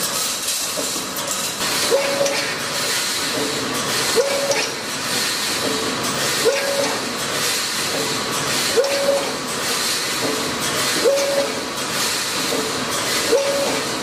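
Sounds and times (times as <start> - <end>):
wire mesh machine running: 0.0 - 14.0.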